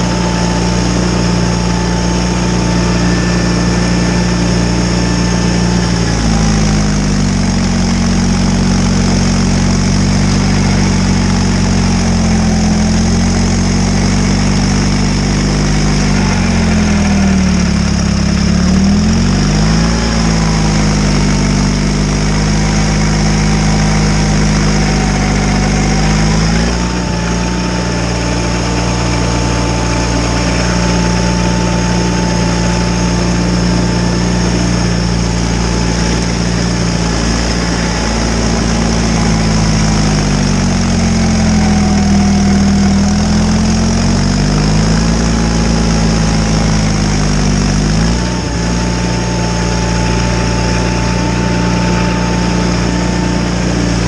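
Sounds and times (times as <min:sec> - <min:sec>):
garden tractor engine running: 0:00.0 - 0:54.0
snowblower whine: 0:00.0 - 0:54.0.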